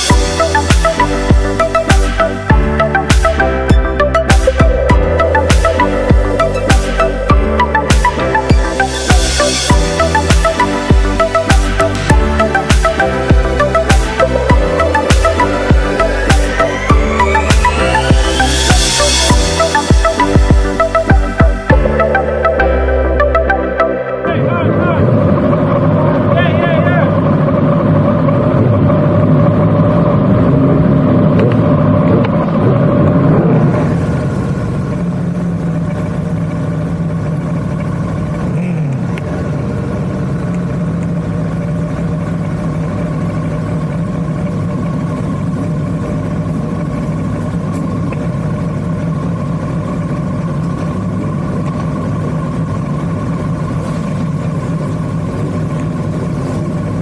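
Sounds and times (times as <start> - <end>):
motorcycle engine running steadily: 0.0 - 23.7, 24.3 - 57.0.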